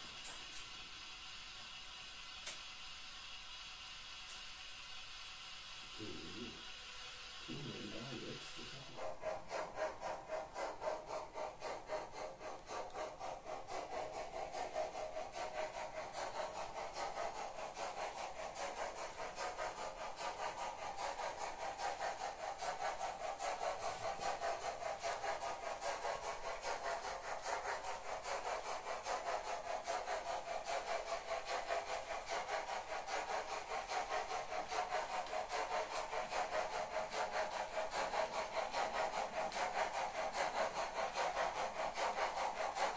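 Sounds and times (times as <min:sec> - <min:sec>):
model train motor whir: 0:00.0 - 0:42.9
wheels clicking on track: 0:07.5 - 0:42.9.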